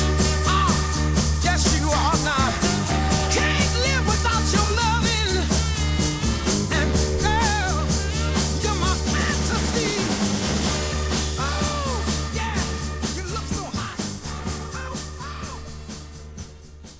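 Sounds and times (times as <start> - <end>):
sliding lead melody: 0.0 - 16.4
soul band playing: 0.0 - 16.9.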